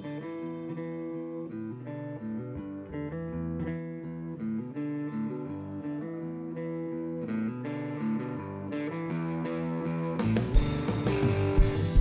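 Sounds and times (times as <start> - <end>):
guitar plucked notes and chords: 0.0 - 12.0.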